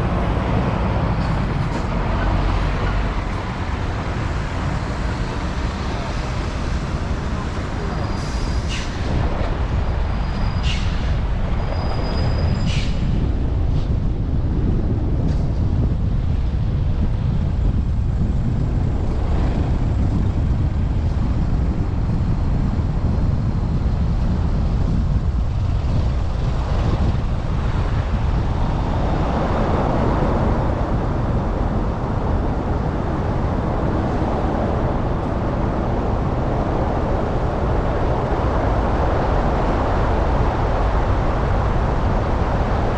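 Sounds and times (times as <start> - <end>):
road and traffic noise: 0.0 - 42.9
wind buffeting microphone: 0.0 - 42.9.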